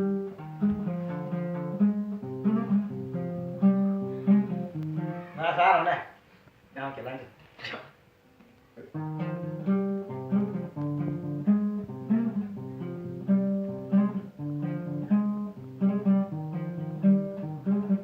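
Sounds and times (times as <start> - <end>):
acoustic guitar strumming chords: 0.0 - 6.1, 8.8 - 18.0.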